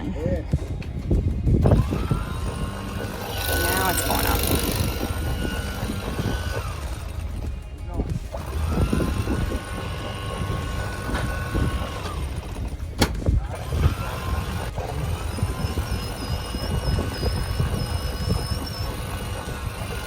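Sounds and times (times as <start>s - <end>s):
low rumble of wind: 0.0s - 20.0s
winch motor whine: 0.0s - 20.0s.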